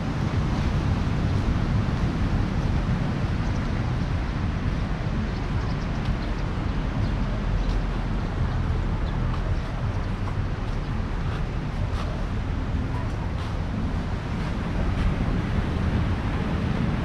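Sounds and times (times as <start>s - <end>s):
ocean surf rumbling: 0.0s - 17.0s
wind buffeting microphone: 0.0s - 17.0s.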